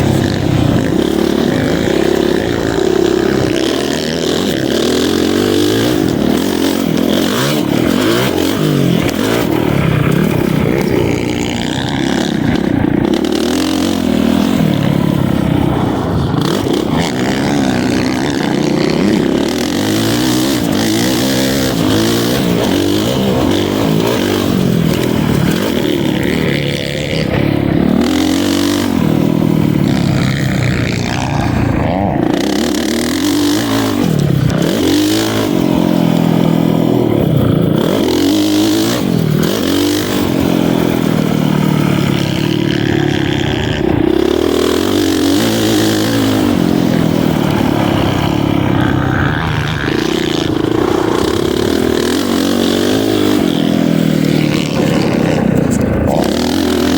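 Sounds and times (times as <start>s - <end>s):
motocross bike engine revving: 0.0s - 56.9s.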